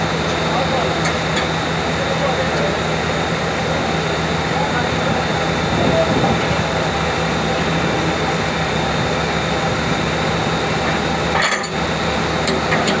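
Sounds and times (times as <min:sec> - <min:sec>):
machinery drone with high whine: 0:00.0 - 0:13.0.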